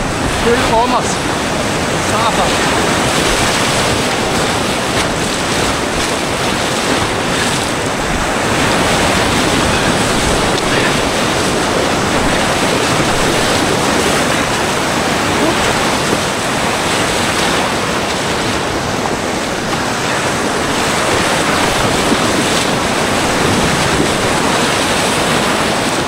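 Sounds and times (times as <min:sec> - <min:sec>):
water splashing over bow: 0:00.0 - 0:26.0
whitewater rushing: 0:00.0 - 0:26.0.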